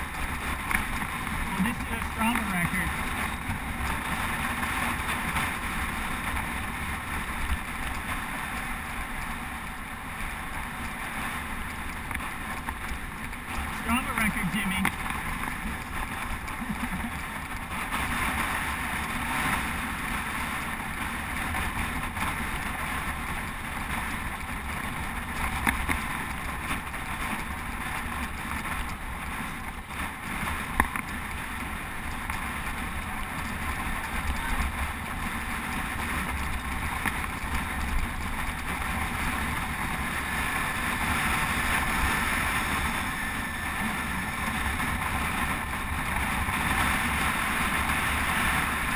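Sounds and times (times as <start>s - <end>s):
road and tyre hiss: 0.0s - 48.9s
wind rushing over microphone: 0.0s - 48.9s.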